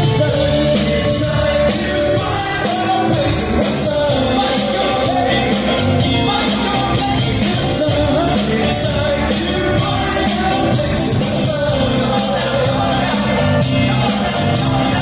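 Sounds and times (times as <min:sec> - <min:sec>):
person singing: 0:00.0 - 0:15.0
soft rock band playing: 0:00.0 - 0:15.0.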